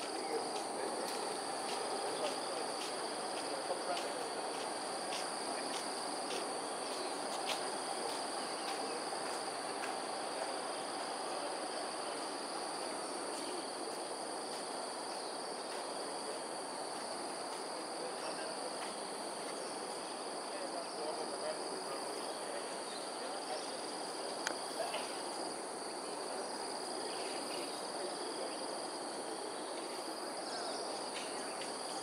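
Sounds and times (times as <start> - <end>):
insect drone: 0.0 - 32.0
outdoor background hiss: 0.0 - 32.0.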